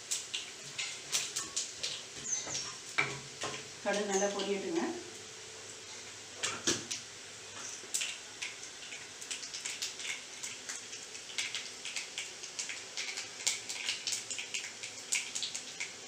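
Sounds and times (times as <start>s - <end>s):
oil sizzling: 0.0s - 16.0s
seeds popping in hot oil: 0.0s - 16.0s.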